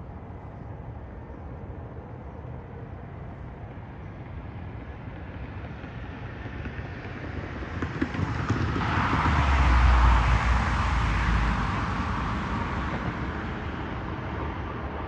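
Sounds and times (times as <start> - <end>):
train approaching rumble: 0.0 - 15.0.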